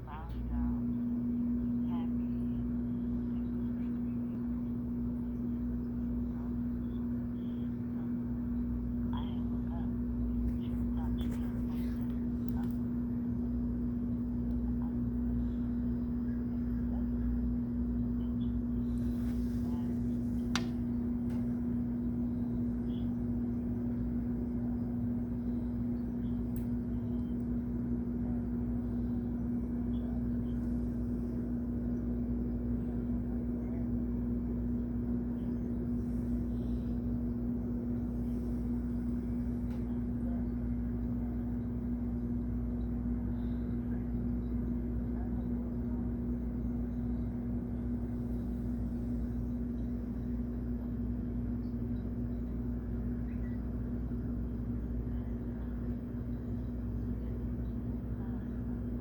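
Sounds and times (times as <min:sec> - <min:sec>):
low motor hum: 0:00.0 - 0:59.0.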